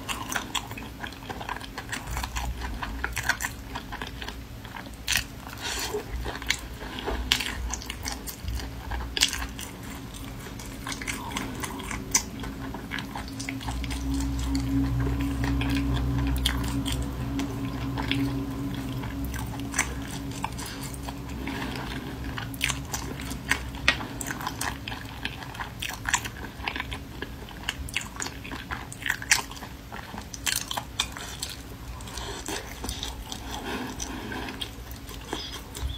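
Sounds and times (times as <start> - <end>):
low hum: 0.0 - 35.9
wet chewing and sucking: 0.0 - 35.9.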